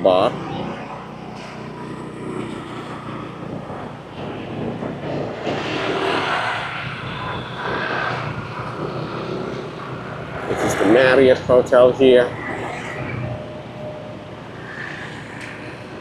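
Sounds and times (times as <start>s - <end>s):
road and traffic noise: 0.0s - 16.0s
scooter engine drone: 0.0s - 16.0s.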